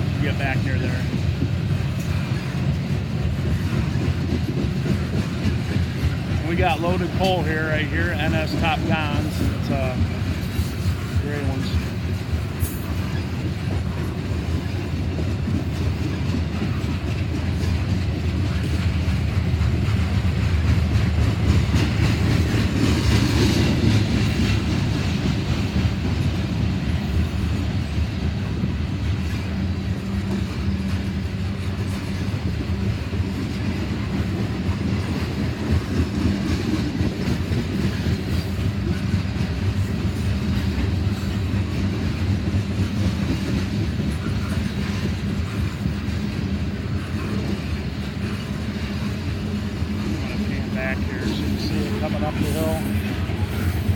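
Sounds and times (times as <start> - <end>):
train rumbling: 0.0 - 53.9
wheels clicking over rail joints: 0.0 - 53.9.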